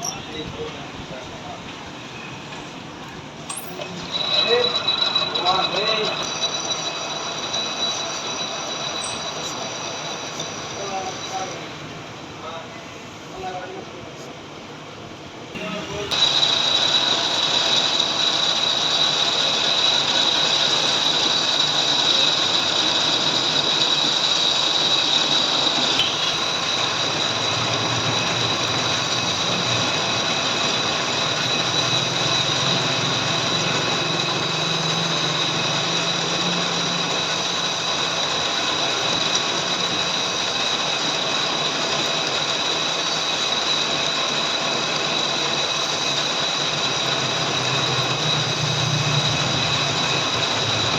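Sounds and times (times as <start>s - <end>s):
machining noise: 0.0s - 12.7s, 15.6s - 50.9s
lathe high whine: 0.0s - 13.3s, 15.6s - 50.9s.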